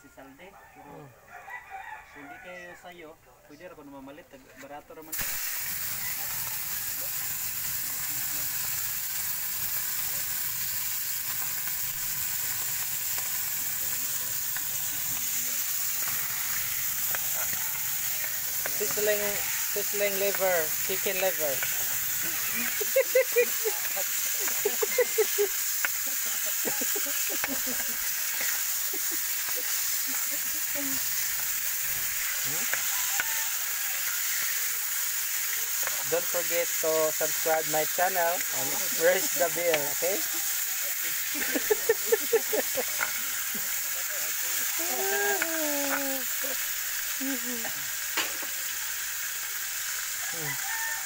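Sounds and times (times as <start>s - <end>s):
liver sizzling in hot oil: 4.9s - 51.0s.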